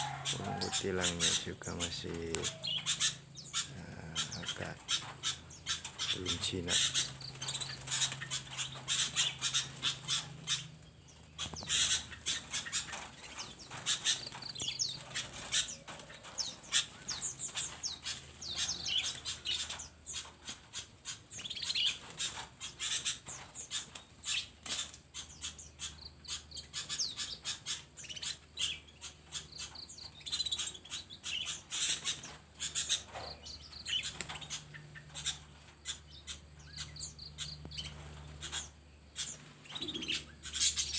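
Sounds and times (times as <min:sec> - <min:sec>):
wings fluttering: 0:00.0 - 0:37.0, 0:37.6 - 0:40.9
small birds chirping: 0:00.0 - 0:40.9.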